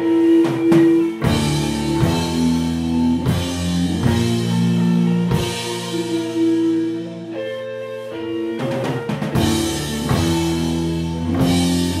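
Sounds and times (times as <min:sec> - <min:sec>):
drum kit with cymbal crashes: 0:00.0 - 0:07.0, 0:08.6 - 0:12.0
bass guitar: 0:00.0 - 0:12.0
distorted electric guitars: 0:00.0 - 0:12.0.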